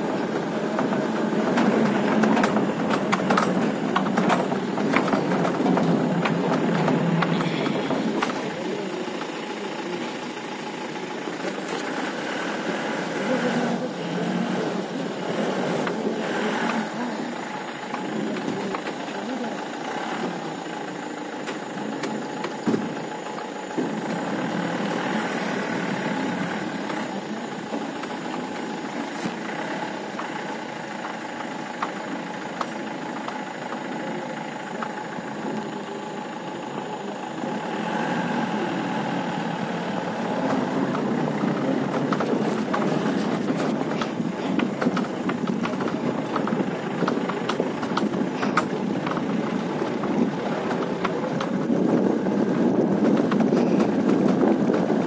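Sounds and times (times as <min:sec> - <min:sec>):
tyres rolling over gravel: 0:00.0 - 0:55.0
vehicle engine running: 0:00.0 - 0:55.0.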